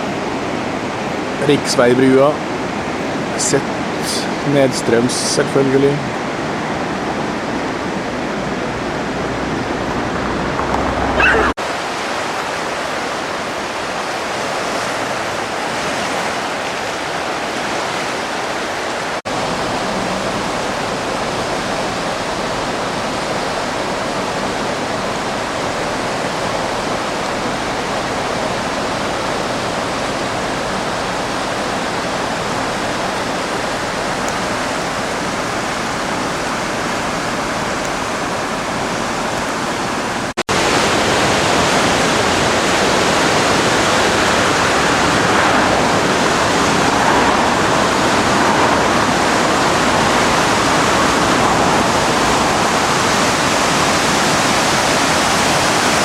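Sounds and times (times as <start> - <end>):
flooded river rushing: 0.0 - 56.0.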